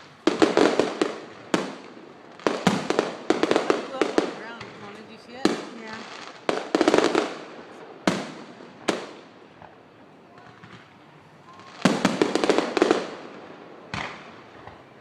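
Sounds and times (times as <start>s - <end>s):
rapid firework cracks: 0.0s - 11.0s, 11.6s - 14.9s
firework shells booming: 0.0s - 15.0s.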